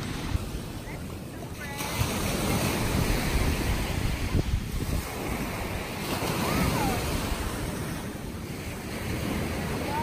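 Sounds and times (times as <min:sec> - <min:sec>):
small waves breaking on shore: 0:00.0 - 0:10.0
wind buffeting microphone: 0:00.0 - 0:10.0.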